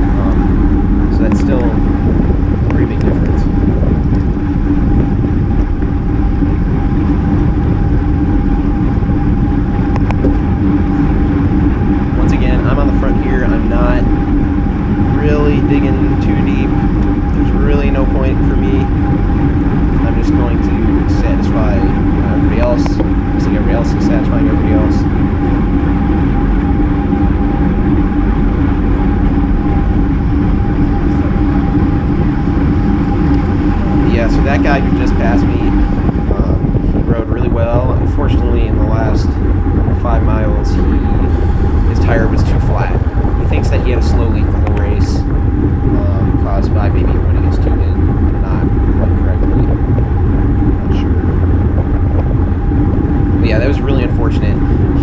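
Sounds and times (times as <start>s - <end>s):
faint steady hum: 0.0s - 55.0s
road rumble: 0.0s - 55.0s
wind rush: 0.0s - 55.0s.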